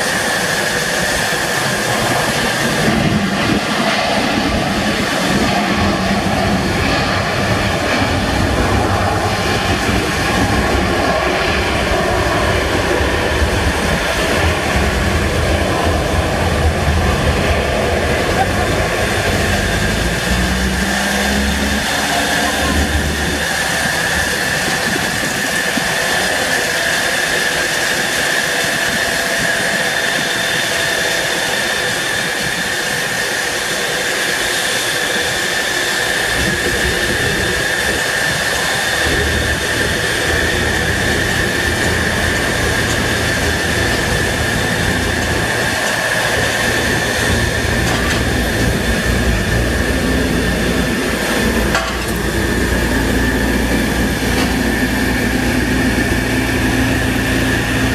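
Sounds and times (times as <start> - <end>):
low engine rumble: 0.0 - 33.9, 35.0 - 57.9
jet turbine whine: 0.0 - 57.9.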